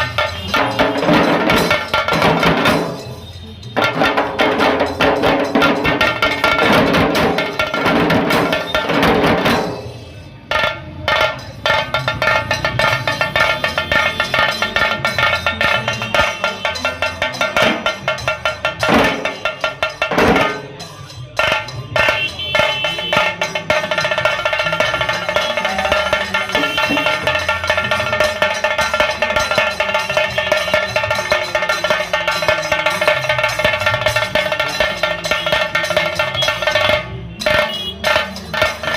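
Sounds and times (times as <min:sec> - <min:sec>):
deep drum beats: 0:00.0 - 0:38.9
drums playing fast rhythm: 0:00.0 - 0:38.9.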